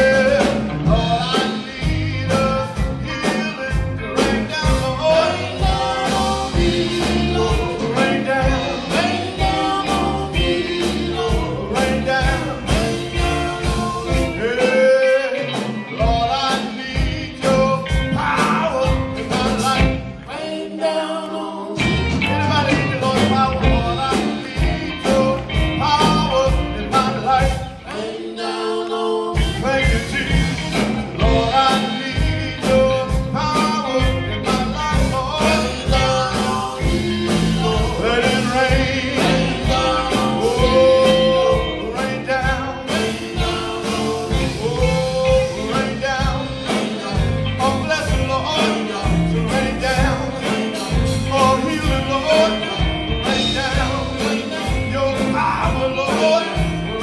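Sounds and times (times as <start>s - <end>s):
drum kit beat: 0.0s - 20.7s, 21.8s - 28.7s, 29.3s - 57.0s
bass: 0.0s - 57.0s
electric guitar: 0.0s - 57.0s
group vocals: 0.0s - 57.0s.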